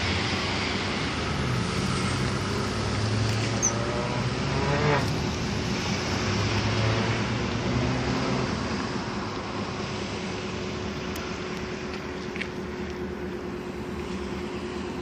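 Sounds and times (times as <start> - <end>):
locomotive low drone: 0.0 - 15.0.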